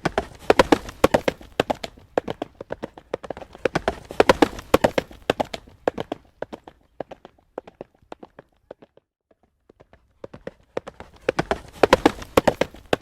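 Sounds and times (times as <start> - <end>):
horse hooves trotting on road: 0.0 - 13.0.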